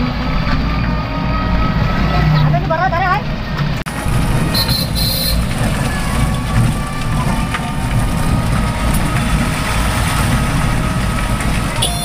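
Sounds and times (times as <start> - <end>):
rickshaw rumbling and rattling: 0.0 - 12.0.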